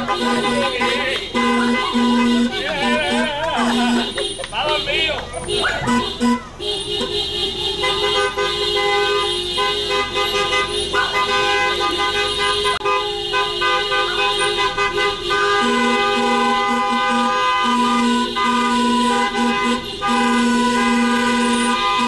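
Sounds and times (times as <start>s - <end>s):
lower horn beeping: 0.0s - 22.0s
vehicle horns blasting: 0.0s - 22.0s.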